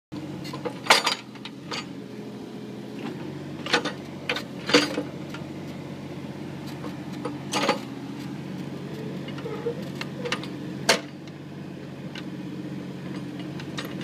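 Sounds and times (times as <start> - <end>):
excavator engine running: 0.2 - 14.0.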